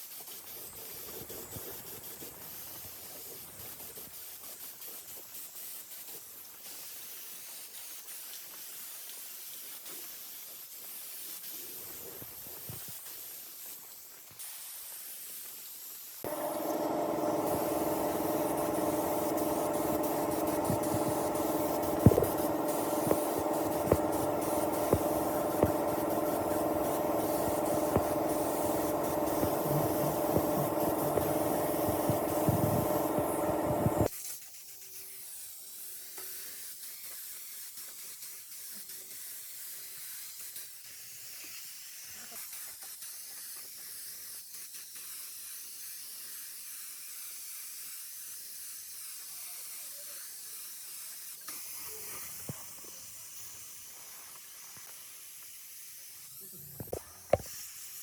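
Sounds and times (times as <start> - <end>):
machine running with a hiss: 0.0 - 58.0.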